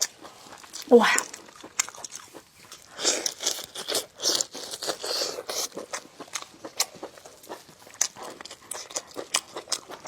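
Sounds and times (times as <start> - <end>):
chewing and crunching food: 0.0 - 10.0.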